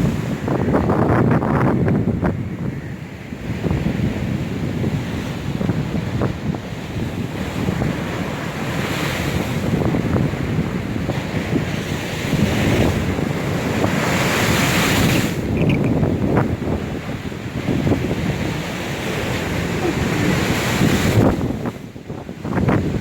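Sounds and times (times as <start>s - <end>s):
waves crashing on shore: 0.0s - 23.0s
wind buffeting microphone: 0.0s - 23.0s.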